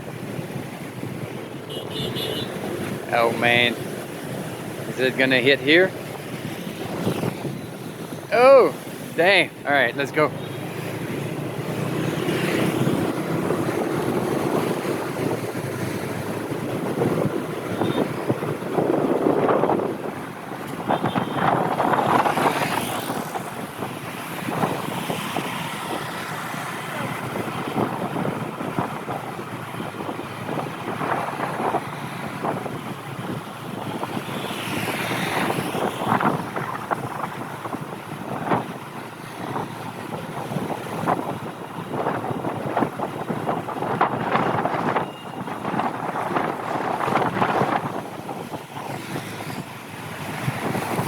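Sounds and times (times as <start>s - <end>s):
road noise: 0.0s - 51.0s
wind buffeting microphone: 2.5s - 51.0s.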